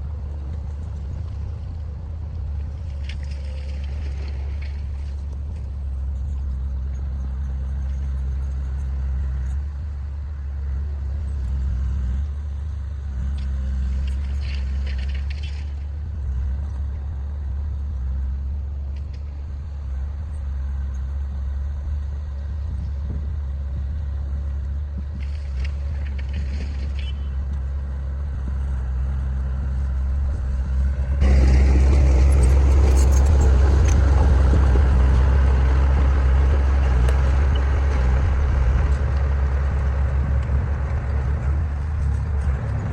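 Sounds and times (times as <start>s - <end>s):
heavy machinery diesel engine droning: 0.0s - 42.9s.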